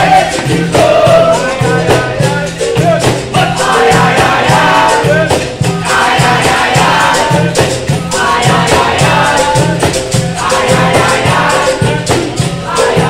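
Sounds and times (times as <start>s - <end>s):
berimbaus and pandeiros beat: 0.0s - 13.0s
group singing in chorus: 0.0s - 13.0s.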